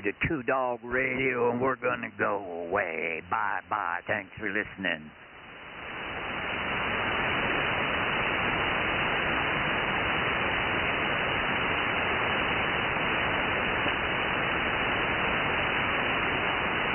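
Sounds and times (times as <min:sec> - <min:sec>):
radio static hiss: 0:00.0 - 0:16.9.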